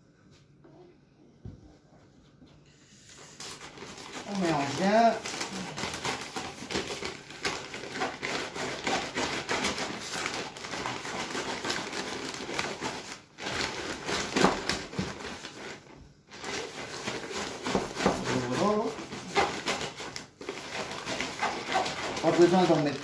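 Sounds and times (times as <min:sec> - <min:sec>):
plastic bag crinkling: 0:03.2 - 0:23.0.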